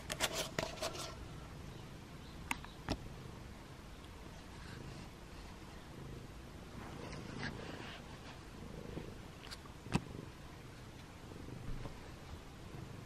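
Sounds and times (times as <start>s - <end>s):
cat purring: 1.2s - 13.0s.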